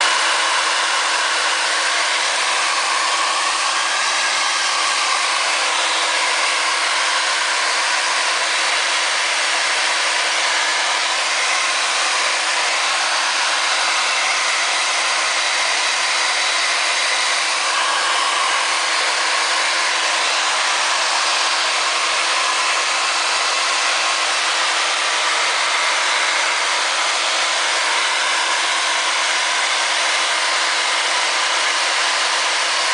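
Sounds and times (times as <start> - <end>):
hair dryer running: 0.0 - 32.9.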